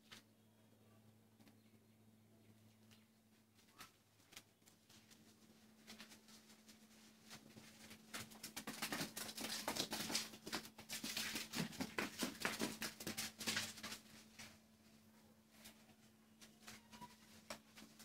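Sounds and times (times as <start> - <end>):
hooves knocking and scuffing: 2.4 - 18.0.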